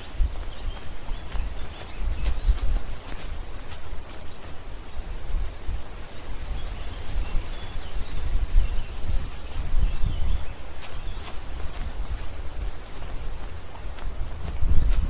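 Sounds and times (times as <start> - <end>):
low wind rumble on microphone: 0.0 - 15.0.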